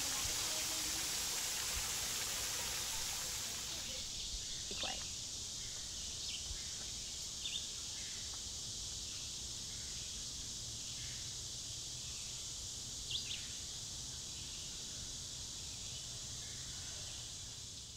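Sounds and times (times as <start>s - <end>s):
high-pitched insect hum: 0.0s - 17.9s.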